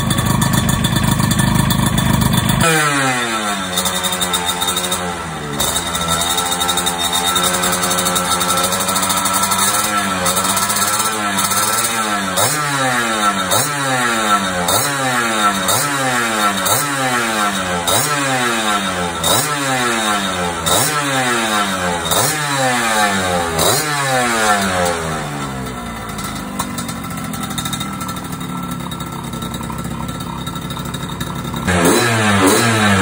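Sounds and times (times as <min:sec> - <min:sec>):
scooter engine revving: 0:00.0 - 0:33.0.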